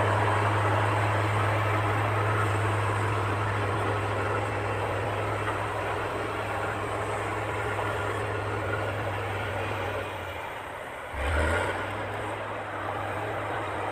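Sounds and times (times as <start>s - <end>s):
heavy machinery diesel engine running: 0.0s - 13.9s.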